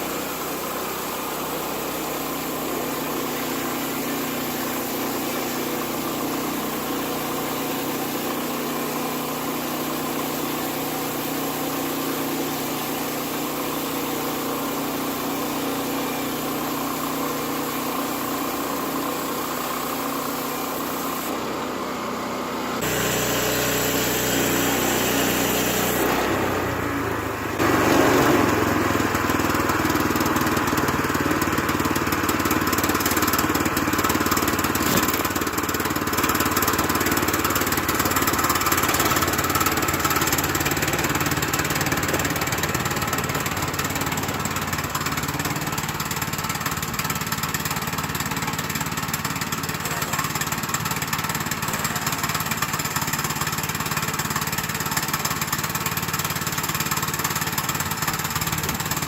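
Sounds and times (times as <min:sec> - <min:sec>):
band sawmill cutting log: 0:00.0 - 0:59.0.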